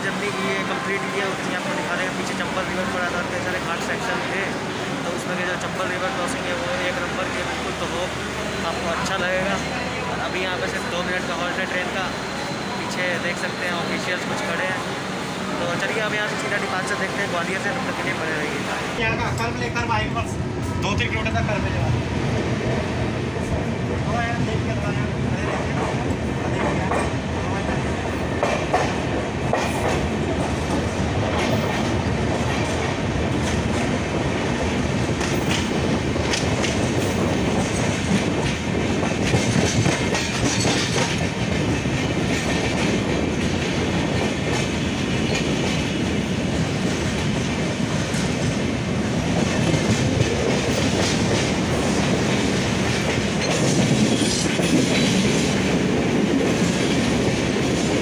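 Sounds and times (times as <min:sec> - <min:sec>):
train coaches rumbling: 0:00.0 - 0:58.0.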